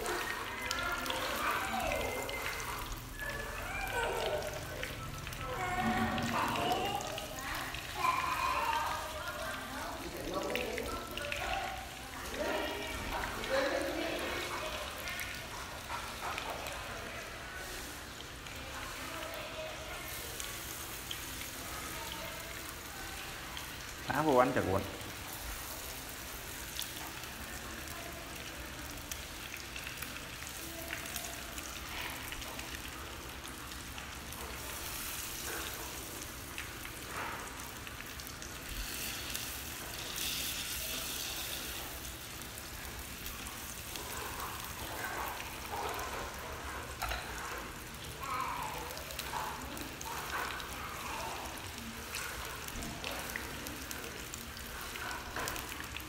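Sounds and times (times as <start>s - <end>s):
spring rolls sizzling in oil: 0.0s - 56.0s.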